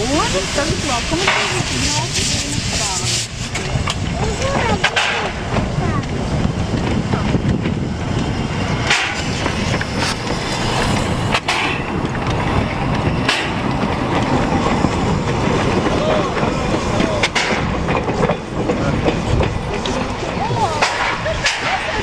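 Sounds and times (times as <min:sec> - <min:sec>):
steam locomotive rumbling: 0:00.0 - 0:22.0.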